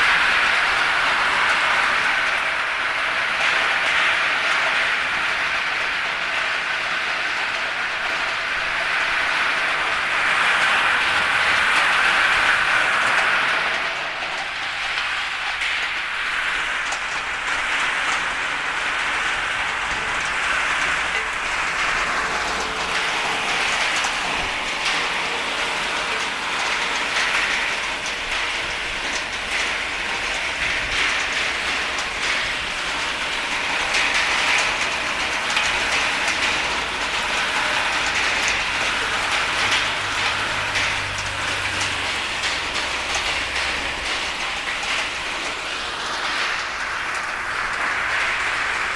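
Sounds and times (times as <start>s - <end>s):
walnuts rattling in rotating drum: 0.0s - 48.9s.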